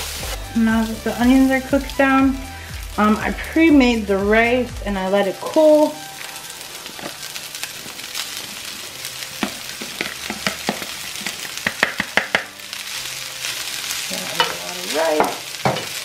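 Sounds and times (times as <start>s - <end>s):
rice sizzling in a pan: 0.0s - 16.0s.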